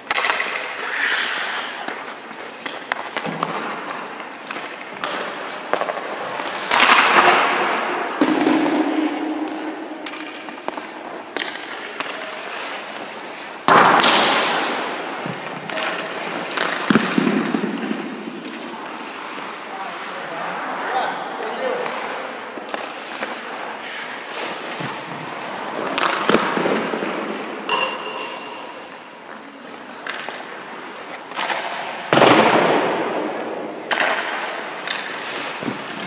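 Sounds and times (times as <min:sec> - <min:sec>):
goalie pads sliding on ice: 0:00.0 - 0:27.7, 0:28.6 - 0:36.0
skate blades scraping ice: 0:00.0 - 0:36.0.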